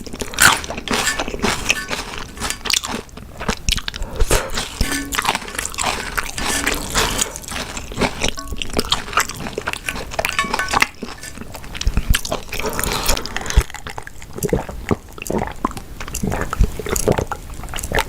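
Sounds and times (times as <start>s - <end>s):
chewing and biting food: 0.0s - 18.0s.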